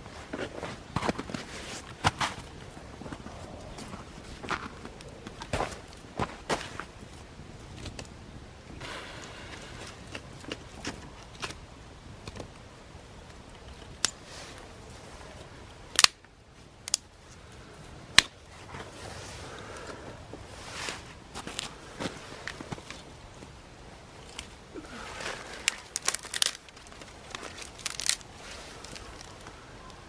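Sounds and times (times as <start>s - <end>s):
soft rustle: 0.0s - 30.0s.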